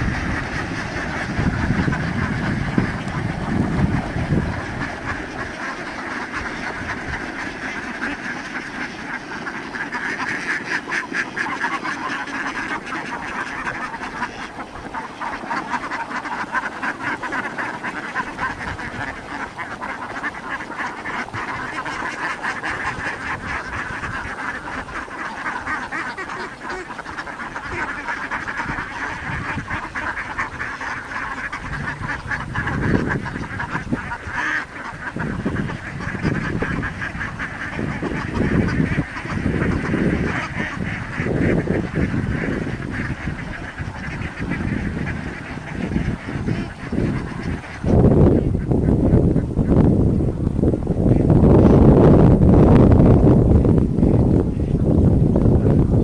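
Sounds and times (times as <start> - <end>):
flock of ducks quacking: 0.0 - 56.0.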